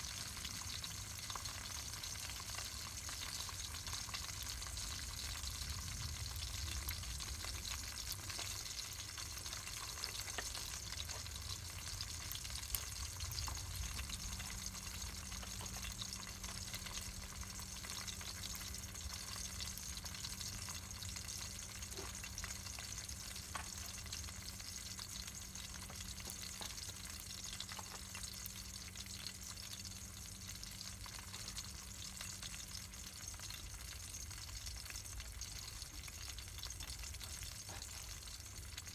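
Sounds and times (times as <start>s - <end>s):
campfire crackling and sizzling: 0.0s - 38.9s.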